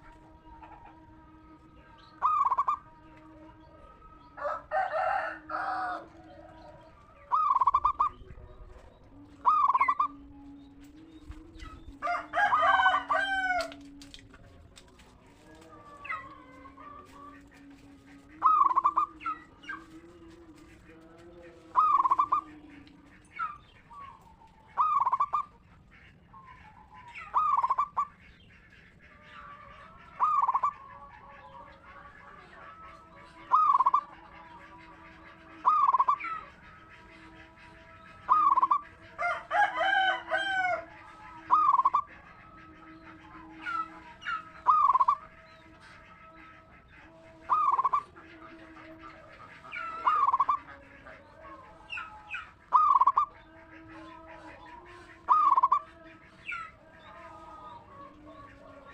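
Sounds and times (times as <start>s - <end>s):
dove cooing: 0.0s - 28.3s, 29.0s - 58.9s
birds chirping: 0.0s - 58.9s.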